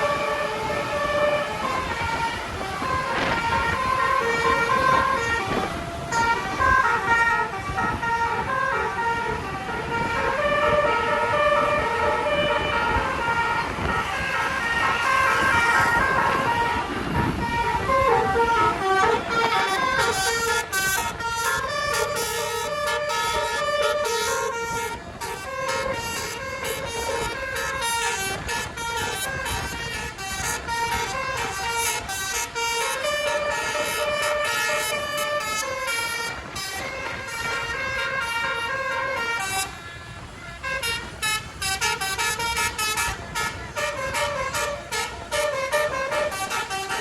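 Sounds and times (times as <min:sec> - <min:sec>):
multi-tone air horns playing melody: 0:00.0 - 0:47.0.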